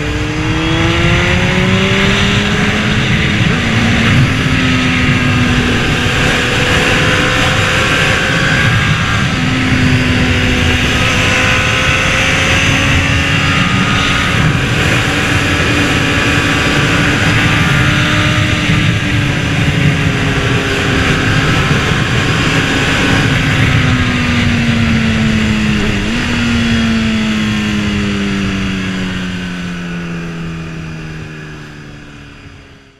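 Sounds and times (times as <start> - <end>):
wind rush on microphone: 0.0 - 31.0
motorcycle engine revving: 0.0 - 32.9.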